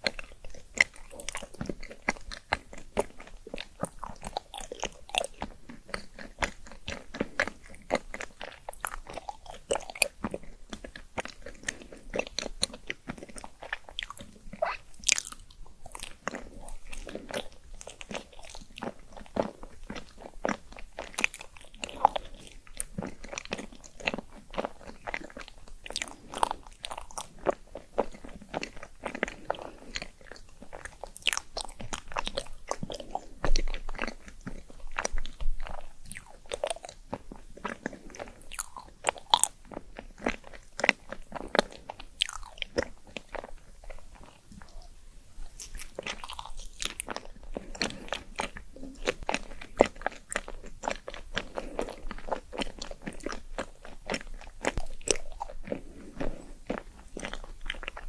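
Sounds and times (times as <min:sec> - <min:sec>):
crunching crisp food: 0:00.0 - 0:58.0
wet chewing: 0:00.0 - 0:58.0.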